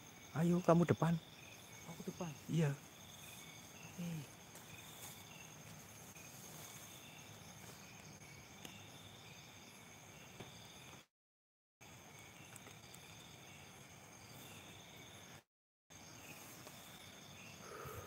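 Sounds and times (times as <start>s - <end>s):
crickets and insects chirping: 0.0s - 11.1s, 11.8s - 18.0s.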